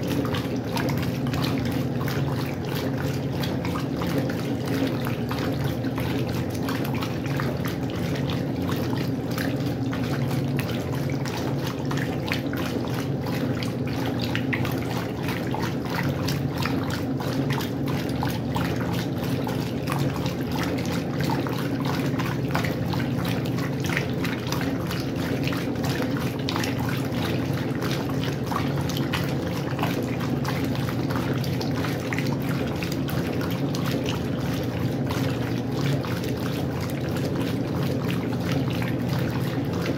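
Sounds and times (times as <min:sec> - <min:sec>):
washing machine motor hum: 0:00.0 - 0:39.9
water splashing and sloshing: 0:00.0 - 0:39.9.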